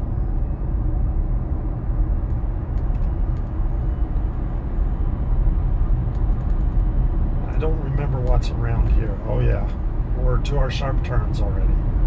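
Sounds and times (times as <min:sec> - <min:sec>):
road and tyre noise in car cabin: 0:00.0 - 0:12.0.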